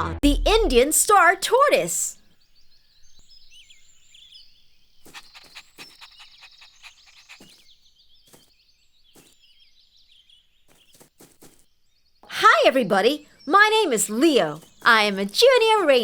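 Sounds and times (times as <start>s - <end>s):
small birds chirping: 1.0s - 16.0s.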